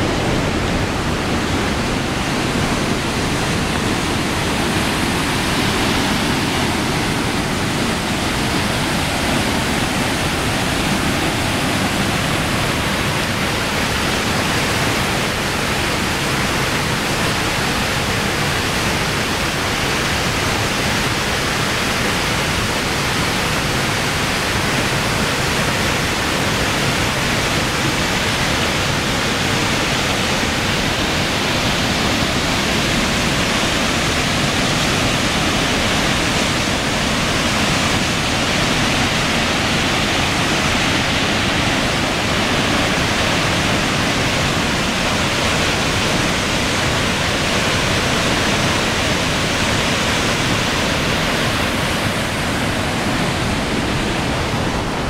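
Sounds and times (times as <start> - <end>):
waterfall rushing into pool: 0.0 - 55.0.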